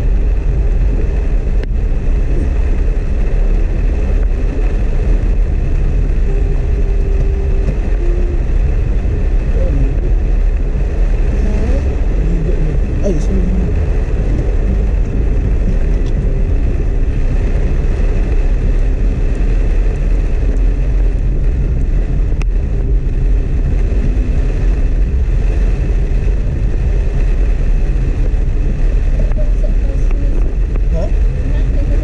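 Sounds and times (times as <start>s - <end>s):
car engine and tyres on wet road: 0.0s - 32.0s
rain hissing on a car: 0.0s - 32.0s.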